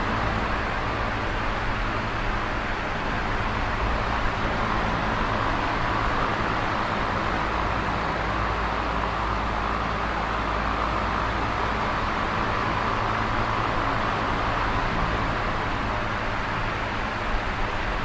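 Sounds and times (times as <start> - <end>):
electric fan air rushing: 0.0 - 18.0
fan motor hum: 0.0 - 18.0.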